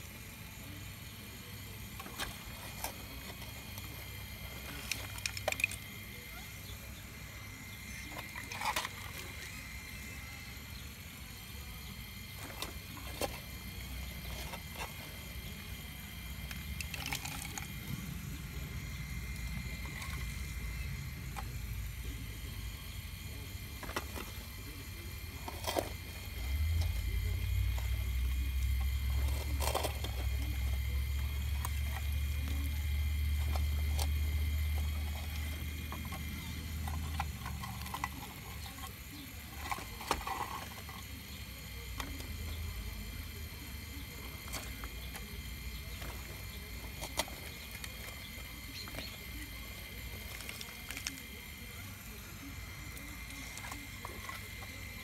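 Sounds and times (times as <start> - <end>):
toy excavator motor whine: 0.0 - 55.0.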